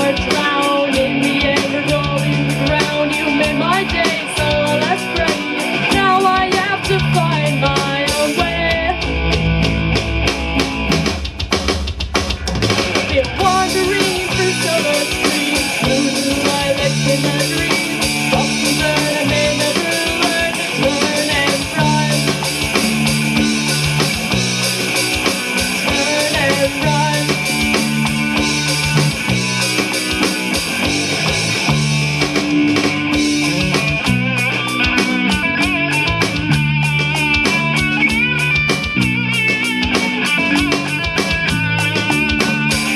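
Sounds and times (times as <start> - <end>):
alternative rock band playing: 0.0 - 42.9.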